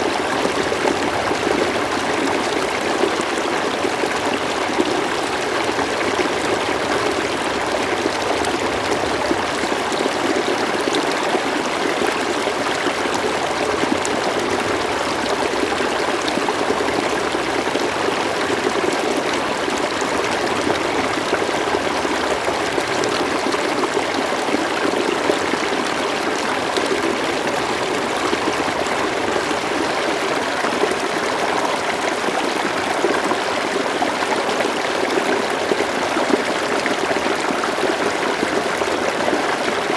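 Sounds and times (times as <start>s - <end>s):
river water rushing and babbling: 0.0s - 39.9s
water trickles and splashes: 0.0s - 39.9s.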